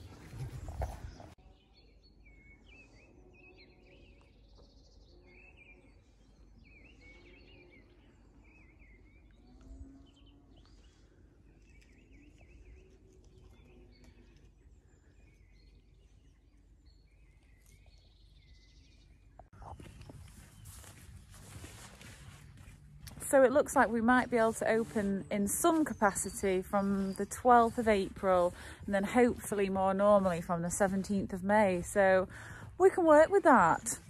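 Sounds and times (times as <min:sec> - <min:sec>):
low countryside rumble: 0:00.0 - 0:01.9, 0:04.0 - 0:34.0
birds chirping: 0:00.0 - 0:34.0.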